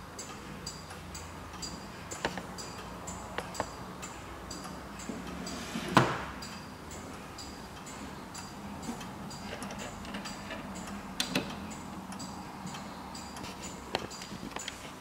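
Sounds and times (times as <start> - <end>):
pendulum clock ticking: 0.0 - 15.0.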